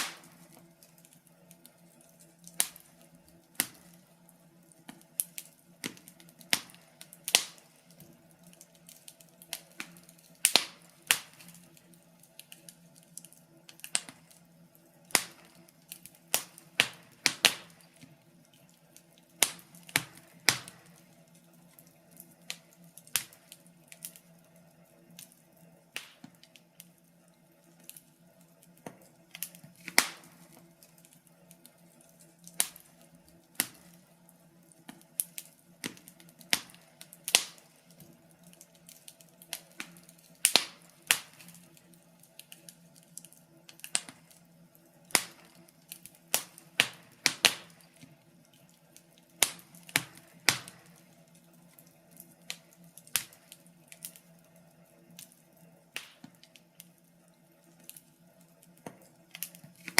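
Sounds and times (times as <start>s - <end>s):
faint steady hum: 0.0s - 59.9s
wood fire crackling and popping: 0.0s - 59.9s.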